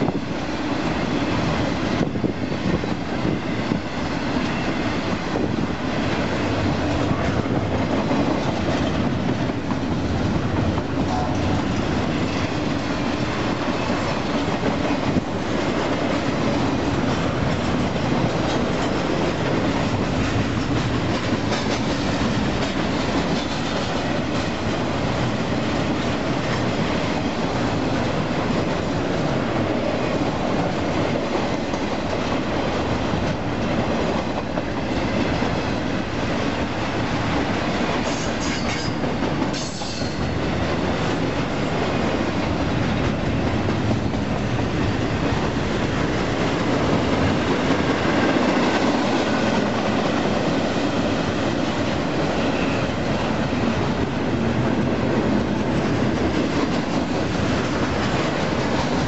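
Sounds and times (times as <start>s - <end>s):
steel wheels rumbling on rails: 0.0s - 59.0s
wheels clickety-clack: 0.0s - 59.0s.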